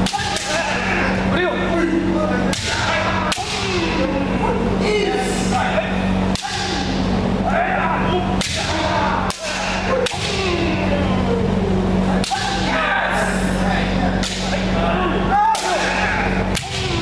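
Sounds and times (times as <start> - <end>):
fencers shouting: 0.0 - 17.0.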